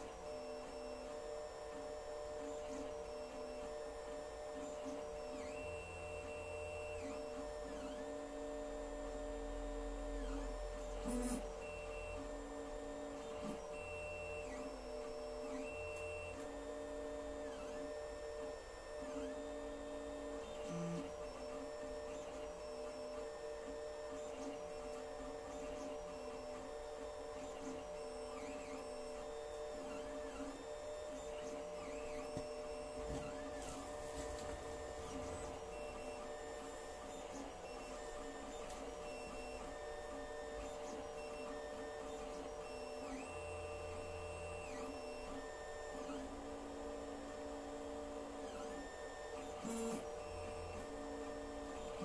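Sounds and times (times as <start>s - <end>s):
stepper motors whining: 10.0s - 52.0s.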